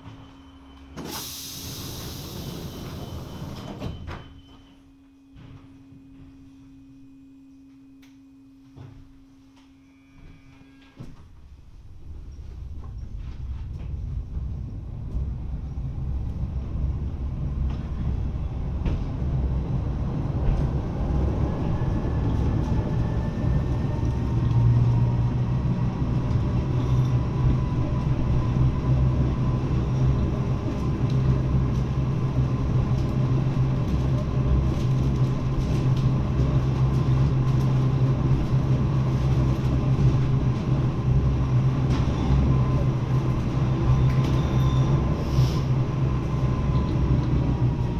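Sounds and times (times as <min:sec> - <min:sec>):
train running rumble: 0:00.0 - 0:07.0, 0:09.6 - 0:47.9.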